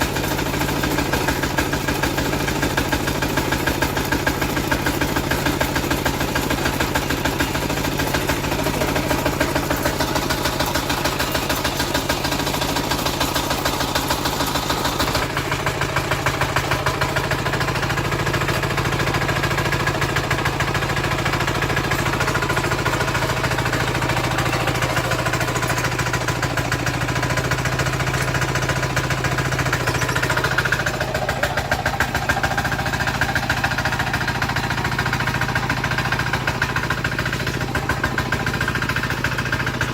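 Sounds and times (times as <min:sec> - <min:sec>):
engine running with fast pulsing: 0:00.0 - 0:39.9.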